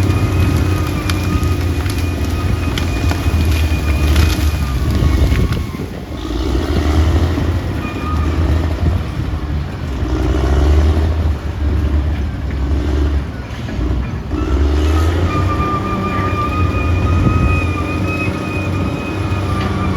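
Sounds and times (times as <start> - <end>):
bulldozer diesel engine under load: 0.0 - 19.9.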